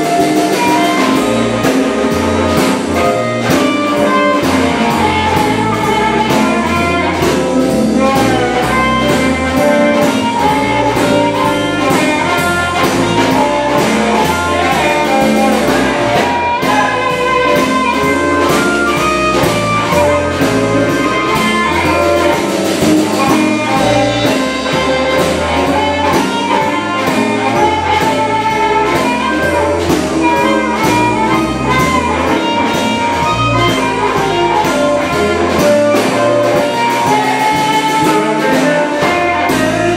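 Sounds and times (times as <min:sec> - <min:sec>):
amplified harmonica: 0:00.0 - 0:39.9
drum kit beat: 0:00.0 - 0:39.9
electric guitars: 0:00.0 - 0:39.9.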